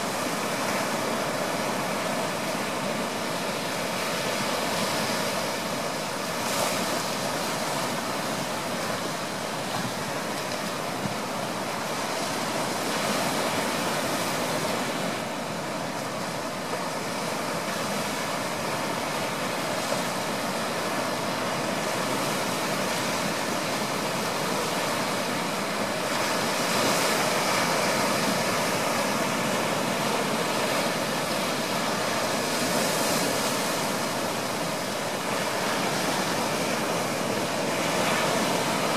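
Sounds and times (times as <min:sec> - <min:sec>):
small waves breaking on beach: 0:00.0 - 0:38.9.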